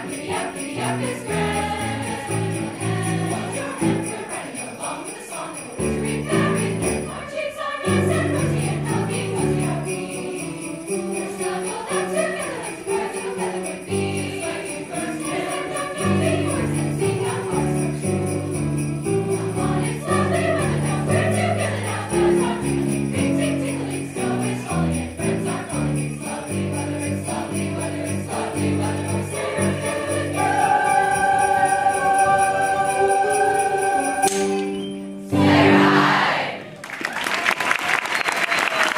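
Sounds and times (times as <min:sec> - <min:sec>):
sleigh bells jingling: 0:00.0 - 0:35.2
choir singing with accompaniment: 0:00.0 - 0:36.8.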